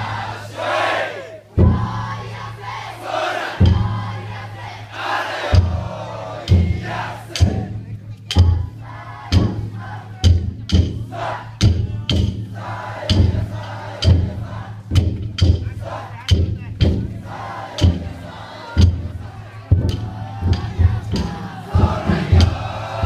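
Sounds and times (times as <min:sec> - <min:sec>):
crowd shouting and chanting: 0:00.0 - 0:23.0
taiko drum strokes: 0:00.0 - 0:23.0.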